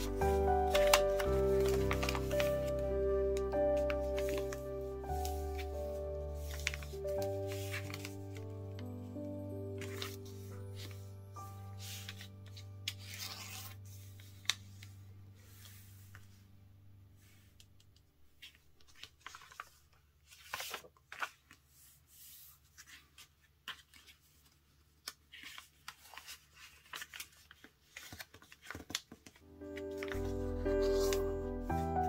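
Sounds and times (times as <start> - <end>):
paper rustling and crinkling: 0.0 - 16.4, 17.2 - 32.0.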